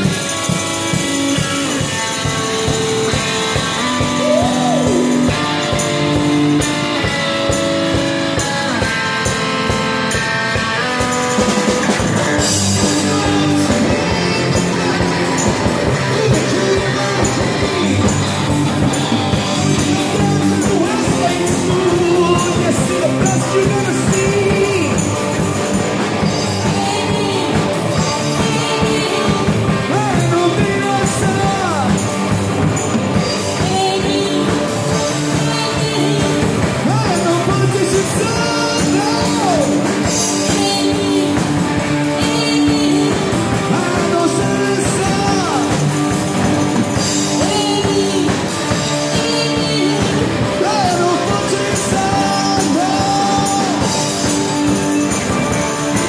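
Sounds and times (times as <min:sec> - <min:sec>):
person singing: 0:00.0 - 0:09.8, 0:11.8 - 0:56.0
drum kit: 0:00.0 - 0:56.0
electric guitars: 0:00.0 - 0:56.0
keyboard: 0:00.0 - 0:56.0.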